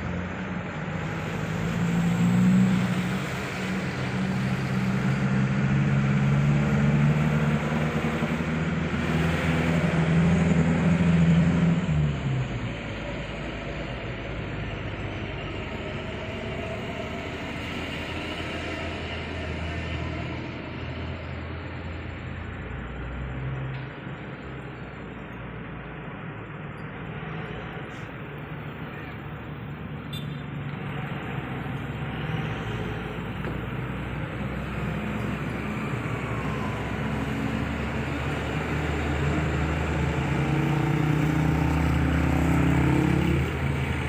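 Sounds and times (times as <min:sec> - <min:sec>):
diesel engine low drone: 0:00.0 - 0:44.0
traffic noise: 0:00.0 - 0:44.0.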